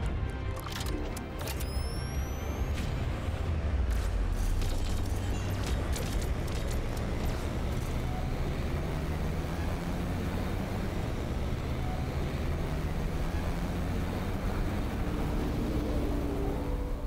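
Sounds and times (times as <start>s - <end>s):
spaceship engines rushing roar: 1.7s - 17.0s.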